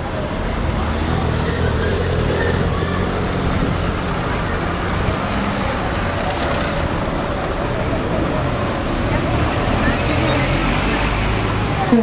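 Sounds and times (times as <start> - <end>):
passing cars: 0.0 - 12.0
vehicle engine humming: 0.0 - 12.0.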